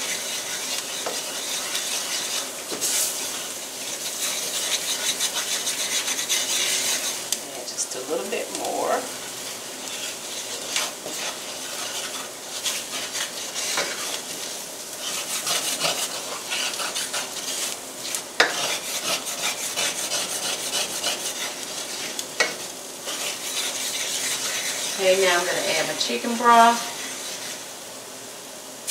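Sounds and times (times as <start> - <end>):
wooden spatula scraping skillet: 0.0 - 27.8
frying sizzle: 0.0 - 28.9.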